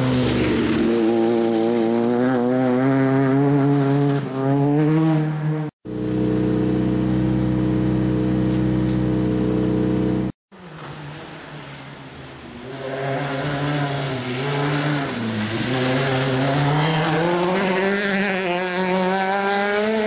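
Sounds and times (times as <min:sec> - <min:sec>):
rally car engine accelerating: 0:00.5 - 0:10.4, 0:12.8 - 0:20.0.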